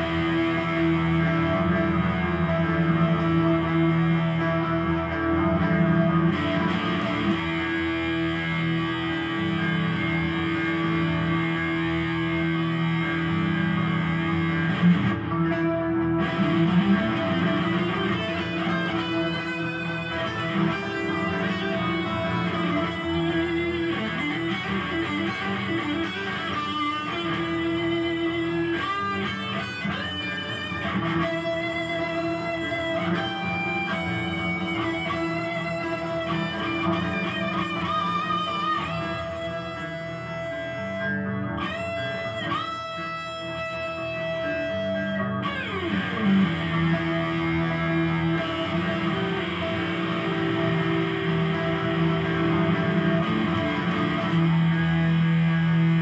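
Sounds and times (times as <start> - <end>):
electric guitar blues lead: 0.0 - 56.0.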